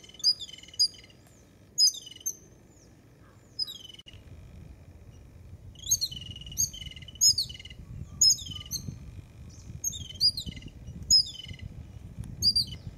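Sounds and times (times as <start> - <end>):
birds calling high notes: 0.0 - 4.2, 5.1 - 11.8.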